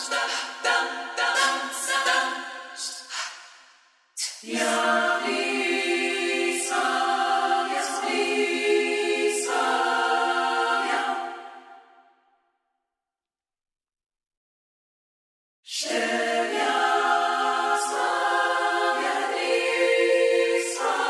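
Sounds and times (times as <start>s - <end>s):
choir singing a cappella: 0.0s - 3.6s, 4.2s - 12.2s, 15.7s - 21.0s.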